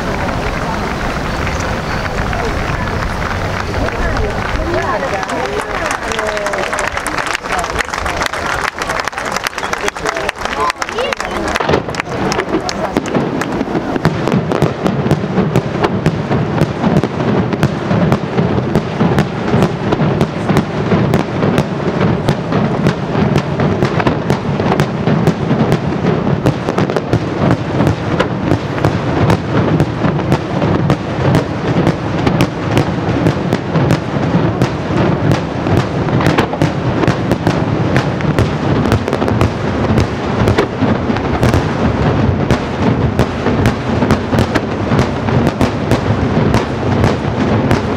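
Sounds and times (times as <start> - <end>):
fireworks barrage bangs: 0.0 - 47.9.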